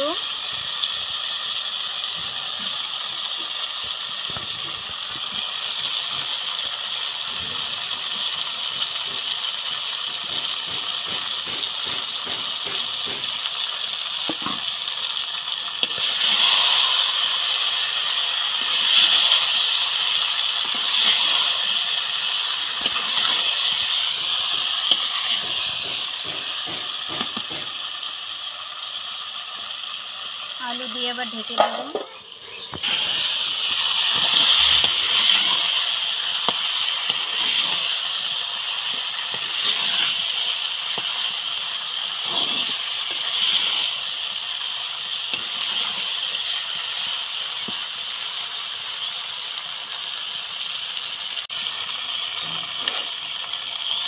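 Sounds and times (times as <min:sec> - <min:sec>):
steady sizzle: 0:00.0 - 0:54.0.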